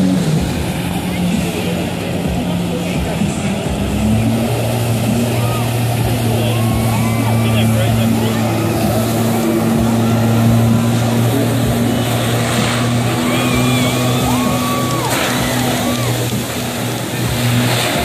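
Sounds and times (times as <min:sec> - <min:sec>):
water jets hissing: 0:00.0 - 0:18.0
watercraft engine drone: 0:00.0 - 0:18.0.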